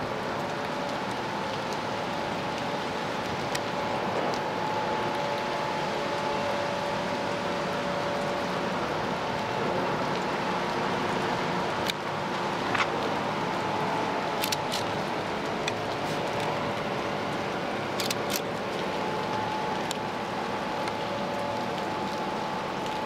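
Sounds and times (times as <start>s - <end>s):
rain hiss: 0.0s - 23.0s
raindrop ticks: 0.1s - 10.8s, 11.7s - 23.0s.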